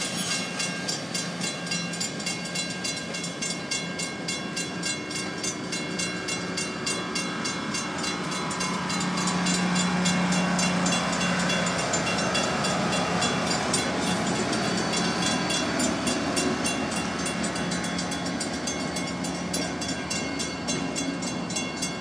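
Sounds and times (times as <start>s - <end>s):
crossing warning bell ringing: 0.0s - 22.0s
diesel locomotive engine drone: 0.0s - 22.0s.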